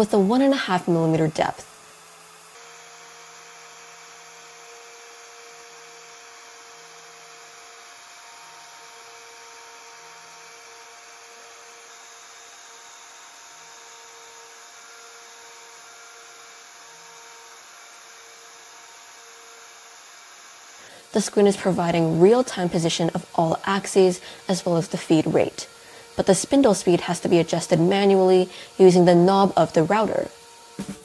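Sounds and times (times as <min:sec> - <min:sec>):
router spindle whining: 0:00.0 - 0:31.0.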